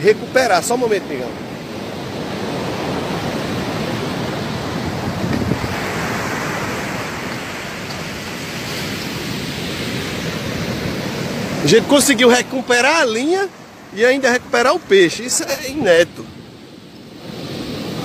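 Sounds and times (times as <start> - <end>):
surf breaking on beach: 0.0 - 18.0
wind on microphone: 0.8 - 11.8, 14.4 - 18.0.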